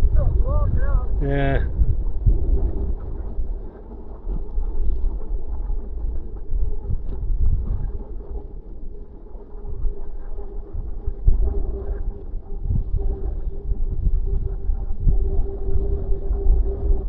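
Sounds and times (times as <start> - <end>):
bicycle riding rumble: 0.0 - 17.0
faint steady hum: 0.0 - 17.0
wind buffeting microphone: 0.0 - 17.0.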